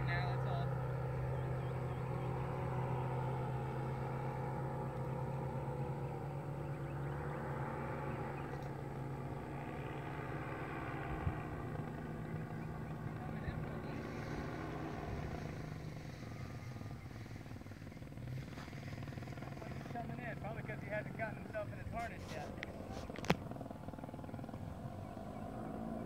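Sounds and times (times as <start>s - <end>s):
paramotor engine droning overhead: 0.0s - 26.0s
steady low hum: 0.0s - 26.0s.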